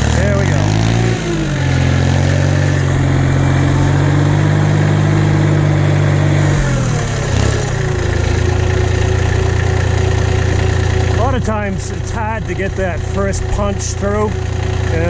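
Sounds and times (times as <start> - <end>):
tractor engine under load: 0.0 - 15.0.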